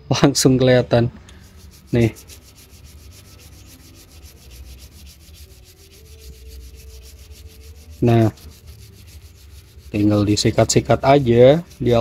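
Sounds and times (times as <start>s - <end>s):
toothbrush scrubbing metal: 1.3s - 12.0s.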